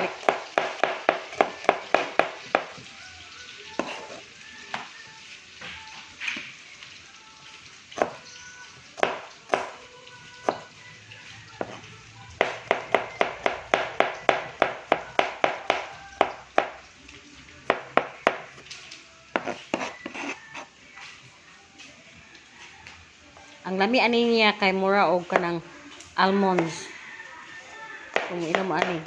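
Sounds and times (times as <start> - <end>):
faint music: 0.0 - 29.0.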